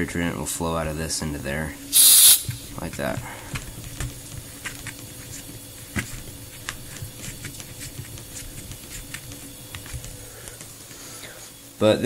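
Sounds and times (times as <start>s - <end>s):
fridge compressor humming: 0.0s - 12.0s.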